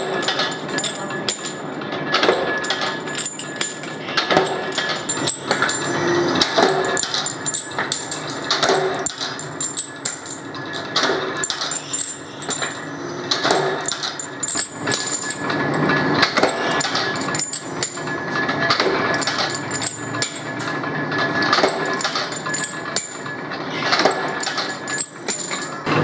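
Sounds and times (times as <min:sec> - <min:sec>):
clinks of steel parts: 0:00.0 - 0:26.0
machine running noise: 0:00.0 - 0:26.0
power press metal clanks: 0:00.0 - 0:26.0.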